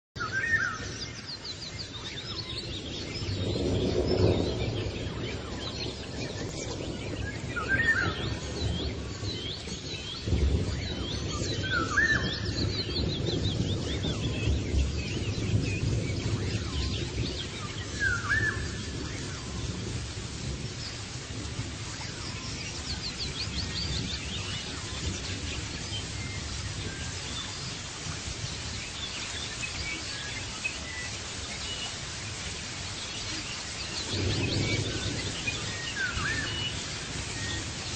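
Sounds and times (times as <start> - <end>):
small birds chirping: 0.2 - 37.9.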